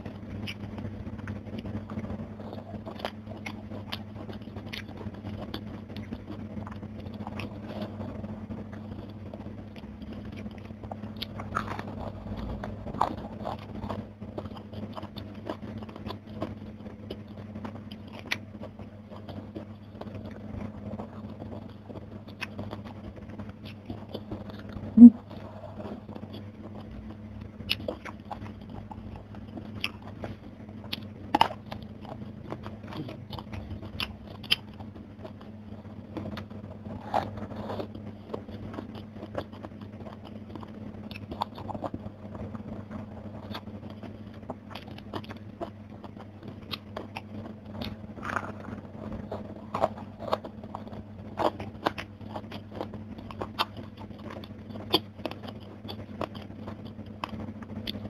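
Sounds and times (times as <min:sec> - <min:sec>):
steady low hum: 0:00.0 - 0:58.0
wet chewing: 0:00.0 - 0:58.0.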